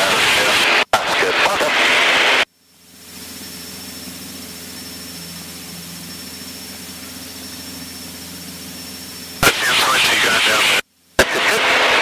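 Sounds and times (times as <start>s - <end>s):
airplane engine drone in cabin: 0.0s - 12.0s
faint high whine: 0.0s - 12.0s.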